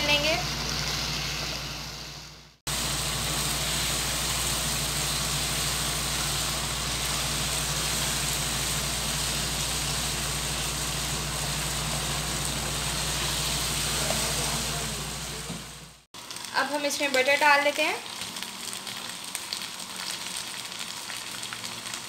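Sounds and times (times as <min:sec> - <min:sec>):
onions sizzling in a pan: 0:00.0 - 0:22.0.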